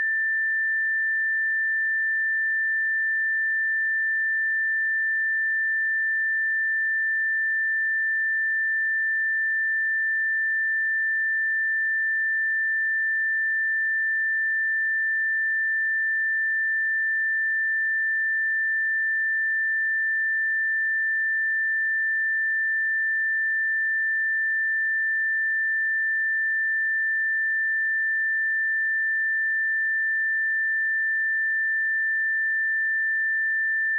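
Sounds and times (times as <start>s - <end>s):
high sine-wave test tone: 0.0s - 33.9s.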